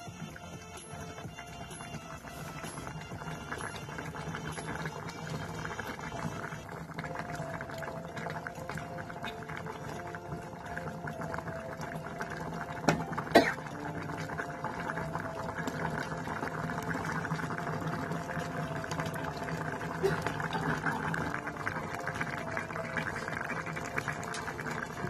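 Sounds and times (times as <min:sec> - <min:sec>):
curry bubbling in pot: 0:00.0 - 0:25.0.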